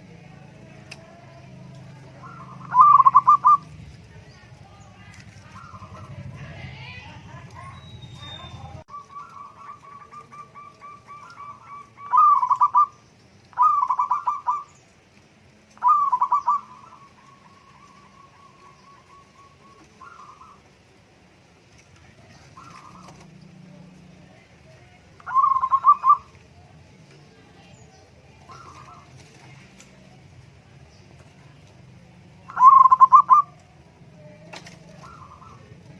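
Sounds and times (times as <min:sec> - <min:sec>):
doves cooing: 0:00.0 - 0:35.9.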